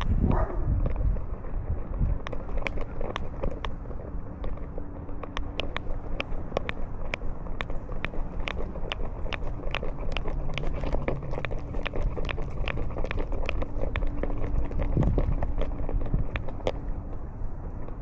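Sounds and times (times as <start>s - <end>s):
sharp clicks: 1.9s - 18.0s.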